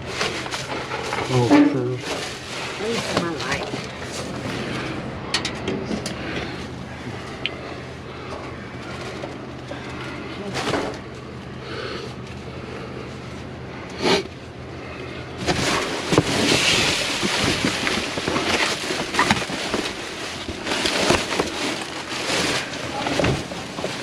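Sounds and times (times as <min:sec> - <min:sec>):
plastic bags rustling and crinkling: 0:00.0 - 0:05.0, 0:06.2 - 0:13.6, 0:14.4 - 0:24.0.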